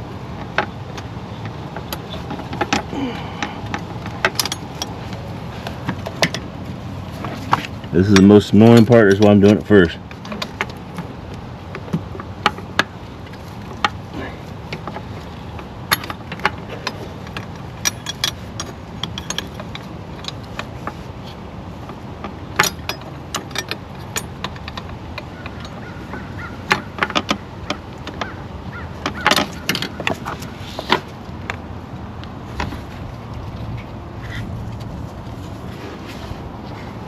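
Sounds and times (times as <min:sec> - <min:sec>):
low background rumble: 0:00.0 - 0:37.0
hand tools clicking on metal parts: 0:00.4 - 0:31.6.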